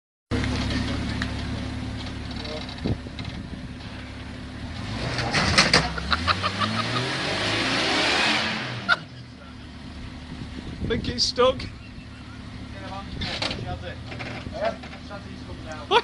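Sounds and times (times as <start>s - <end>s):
vehicle engine revving: 0.3s - 15.9s.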